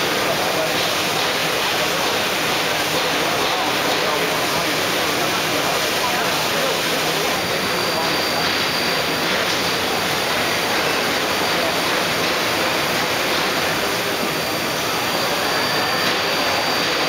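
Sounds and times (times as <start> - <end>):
busy exhibition hall din: 0.0 - 17.0.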